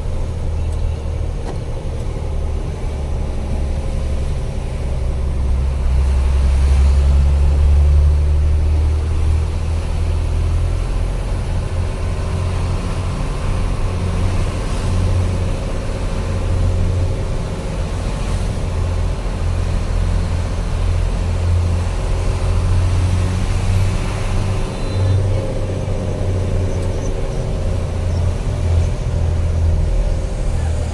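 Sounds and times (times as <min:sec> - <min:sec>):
truck engine droning: 0:00.0 - 0:30.9.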